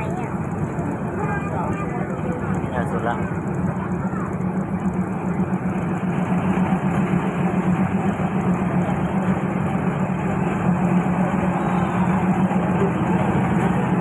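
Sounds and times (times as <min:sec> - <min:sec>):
diesel railcar engine drone: 0:00.0 - 0:14.0.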